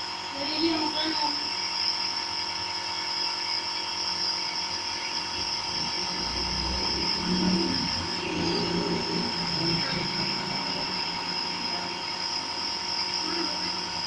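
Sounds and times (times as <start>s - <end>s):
nebulizer motor buzzing: 0.0s - 14.0s.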